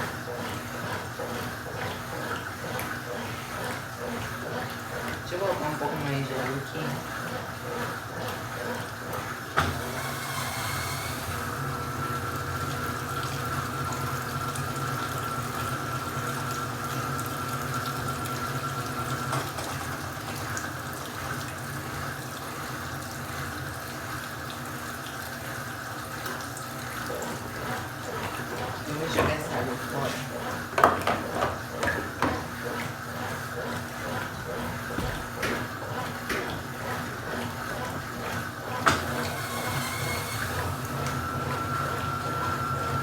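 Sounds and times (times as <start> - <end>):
washing machine humming: 0.0 - 43.0
water running into tub: 0.0 - 43.0.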